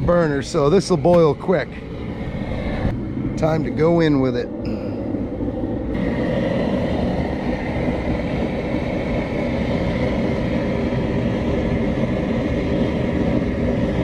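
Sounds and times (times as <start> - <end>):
gas burner roaring: 0.0 - 14.0
wind on microphone: 0.0 - 14.0.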